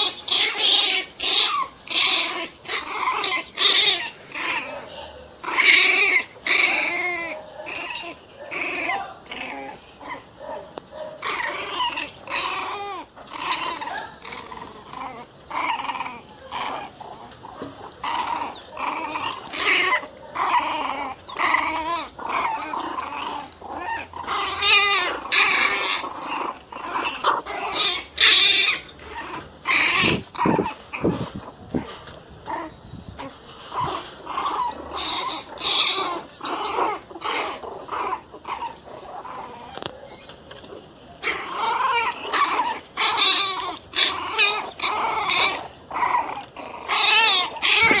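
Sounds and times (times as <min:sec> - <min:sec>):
dogs growling aggressively: 0:00.0 - 0:48.0.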